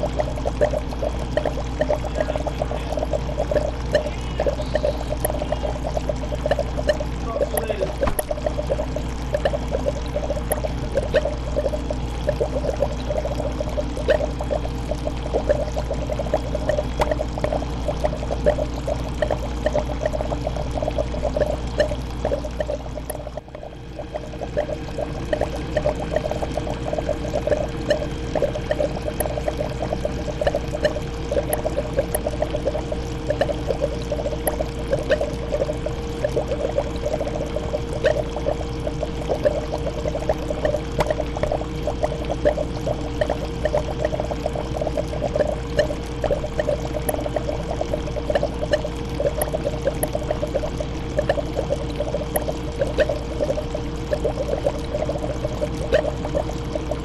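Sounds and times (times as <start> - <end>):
constant hum: 0.0 - 57.0
water pouring and trickling: 0.0 - 57.0.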